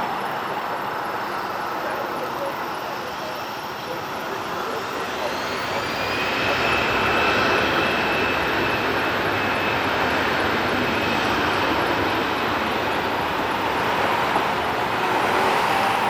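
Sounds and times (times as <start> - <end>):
airliner engine noise overhead: 0.0 - 16.0
thin high engine whine: 0.0 - 16.0.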